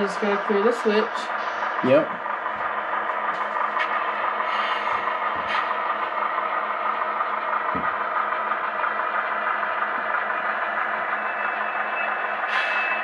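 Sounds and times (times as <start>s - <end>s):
model locomotive humming: 0.0s - 13.0s.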